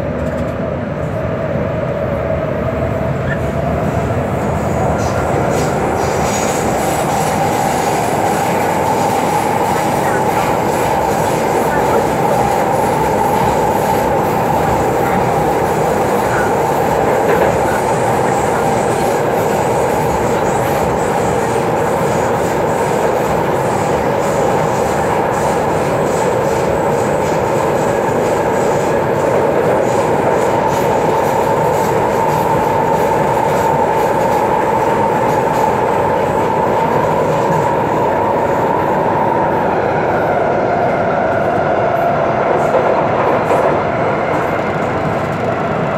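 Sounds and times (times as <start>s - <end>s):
metro train rumble and rail noise: 0.0s - 45.9s.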